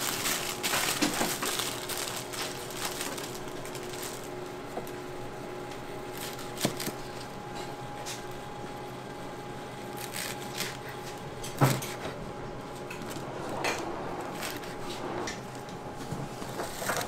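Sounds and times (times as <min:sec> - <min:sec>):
kitchen equipment hum: 0:00.0 - 0:17.0.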